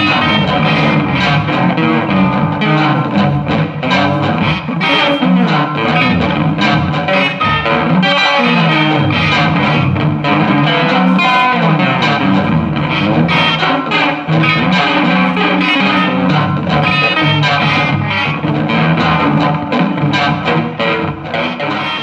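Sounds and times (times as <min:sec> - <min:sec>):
distorted electric guitar loops: 0:00.0 - 0:22.0.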